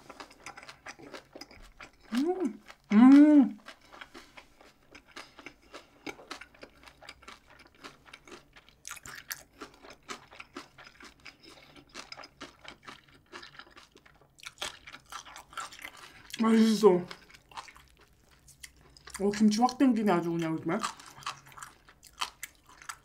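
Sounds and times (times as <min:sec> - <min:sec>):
crunchy chewing: 0:00.0 - 0:16.4, 0:17.0 - 0:19.3, 0:20.8 - 0:23.0.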